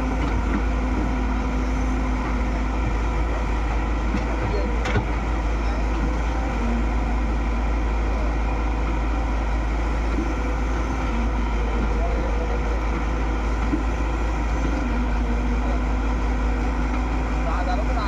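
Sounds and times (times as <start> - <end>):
diesel engine rumbling: 0.0 - 18.0
faint voices: 1.0 - 18.0.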